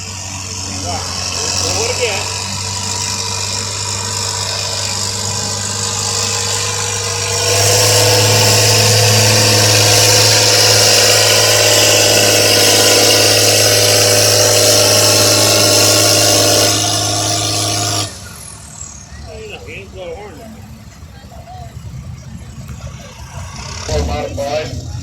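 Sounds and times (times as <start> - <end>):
tractor engine running hard: 0.0 - 25.0.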